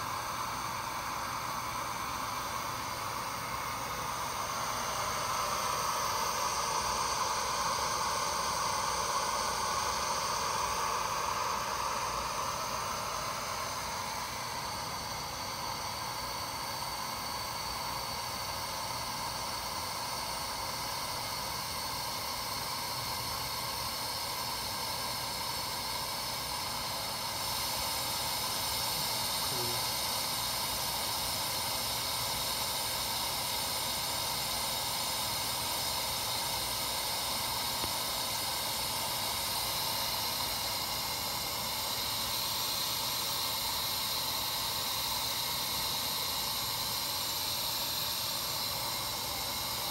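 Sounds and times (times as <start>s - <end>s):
hot gas hissing: 0.0s - 49.9s.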